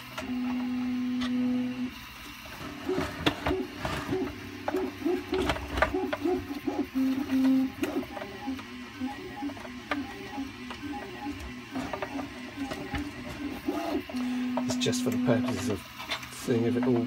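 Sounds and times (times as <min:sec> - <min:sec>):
steady hum: 0:00.0 - 0:17.0
short whirring tones: 0:00.2 - 0:15.8.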